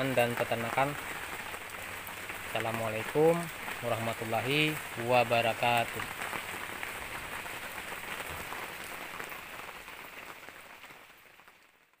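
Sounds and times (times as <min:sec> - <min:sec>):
steady rain patter: 0:00.0 - 0:12.0.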